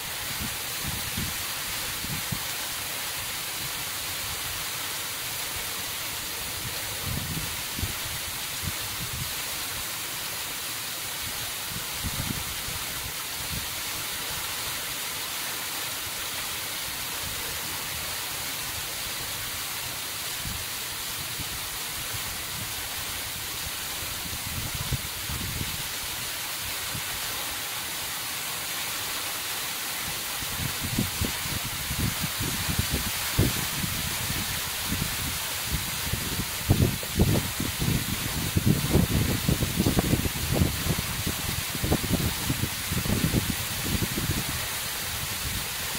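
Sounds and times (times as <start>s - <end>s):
waterfall splashing: 0.0s - 45.9s.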